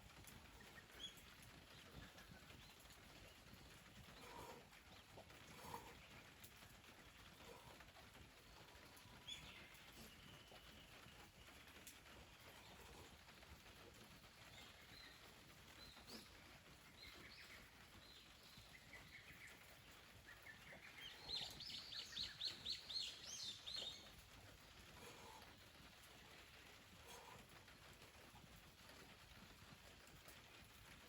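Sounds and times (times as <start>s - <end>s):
birds chirping: 0.1s - 27.6s.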